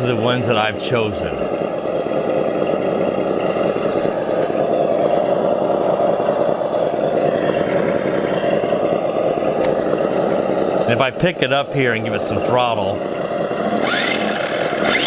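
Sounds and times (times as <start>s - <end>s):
simulated engine idling: 0.0s - 15.0s.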